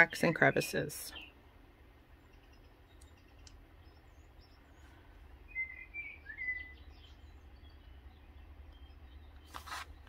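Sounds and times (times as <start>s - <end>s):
bird chirps: 0.0s - 1.4s, 2.2s - 10.0s
faint low hum: 0.0s - 10.0s.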